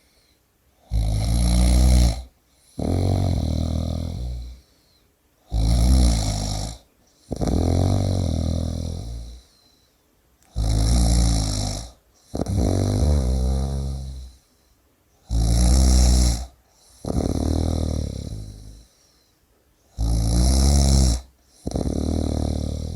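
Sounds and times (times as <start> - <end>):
person snoring: 0.8 - 4.7, 5.5 - 9.5, 10.5 - 14.4, 15.2 - 18.9, 19.9 - 22.9.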